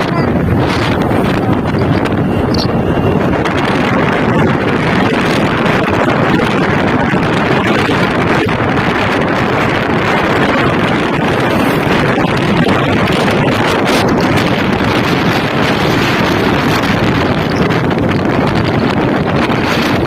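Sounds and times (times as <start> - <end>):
motorcycle engine: 0.0 - 20.0
road noise: 0.0 - 20.0
wind rushing over microphone: 0.0 - 20.0.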